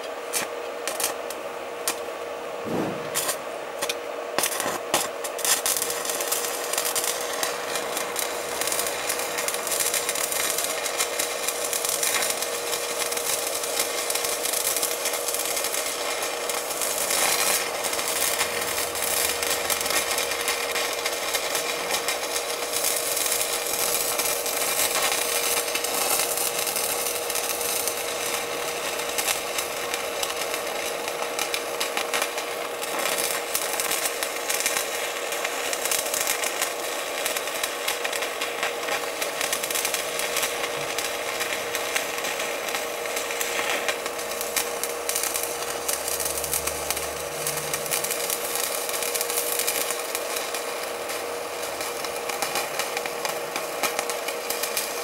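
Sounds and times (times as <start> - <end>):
welding arc crackling: 0.0 - 55.0.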